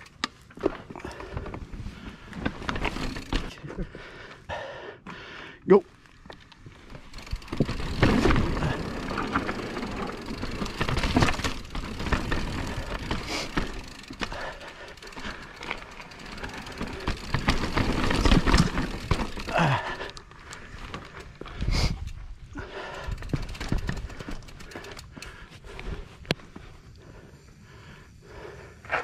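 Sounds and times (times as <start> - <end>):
bike knocking and rattling: 0.0 - 4.1, 6.0 - 27.3
bike tyres on rough trail: 0.0 - 29.0.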